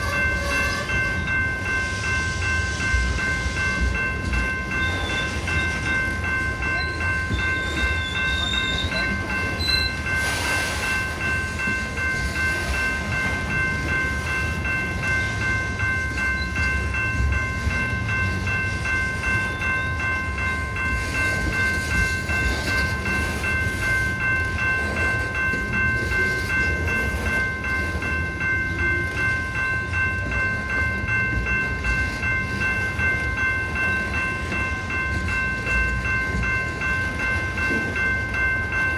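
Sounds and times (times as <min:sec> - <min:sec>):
high ringing tones: 0:00.0 - 0:38.9
train rumbling past: 0:00.0 - 0:38.9.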